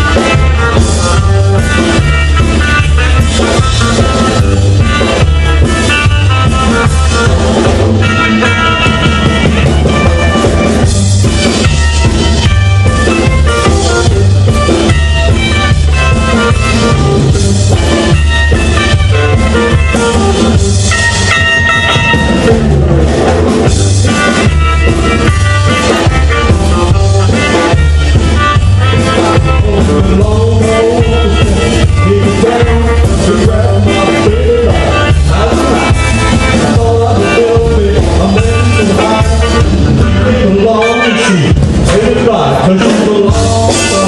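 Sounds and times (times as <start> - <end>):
drum kit beat: 0.0 - 44.0
electric and acoustic guitars: 0.0 - 44.0
rockabilly band playing live: 0.0 - 44.0.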